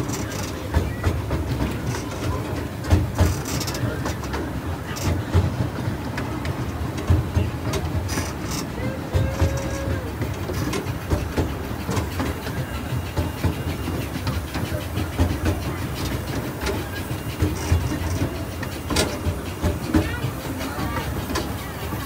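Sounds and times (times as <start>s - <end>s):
train rumbling on track: 0.0s - 22.0s
wheels clacking and rattling: 0.0s - 22.0s.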